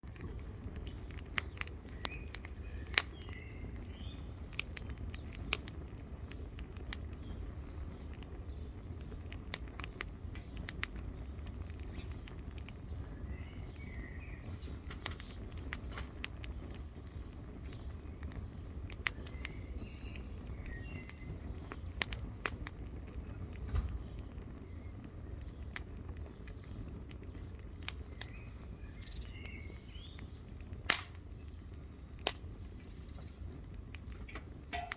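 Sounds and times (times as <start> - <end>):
birds chirping: 0.0 - 34.9
campfire crackling and popping: 0.0 - 34.9.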